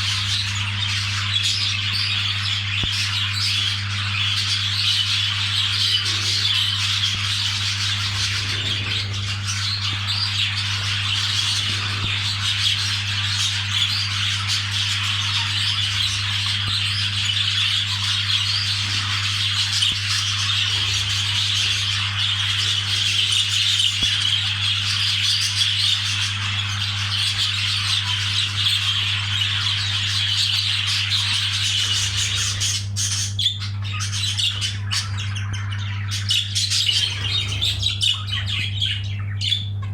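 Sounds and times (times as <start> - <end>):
budgerigars chattering and warbling: 0.0 - 39.9
steady low hum: 0.0 - 39.9.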